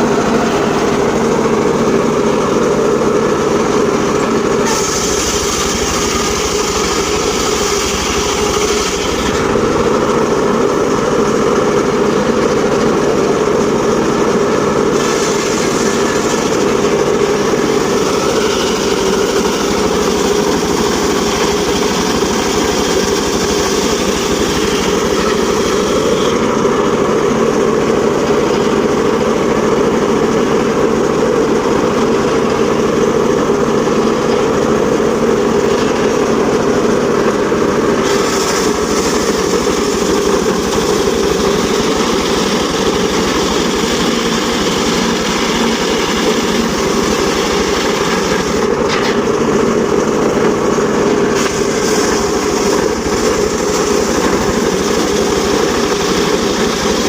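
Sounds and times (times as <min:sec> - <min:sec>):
circular sawmill running: 0:00.0 - 0:57.0.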